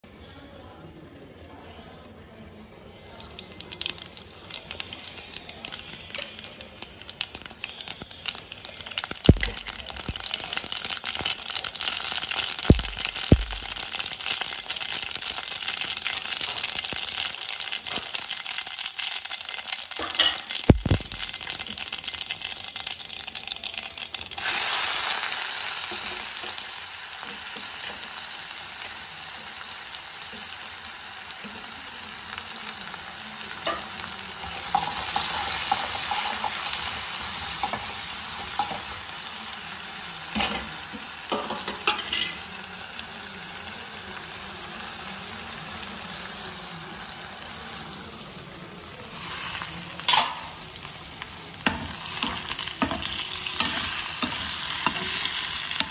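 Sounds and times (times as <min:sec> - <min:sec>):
seeds crackling in hot oil: 0:02.4 - 0:55.9
onions sizzling in oil: 0:02.5 - 0:55.9.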